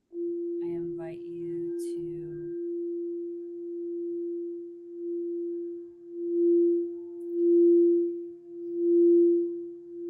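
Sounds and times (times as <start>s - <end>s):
singing bowl tone: 0.0s - 10.0s.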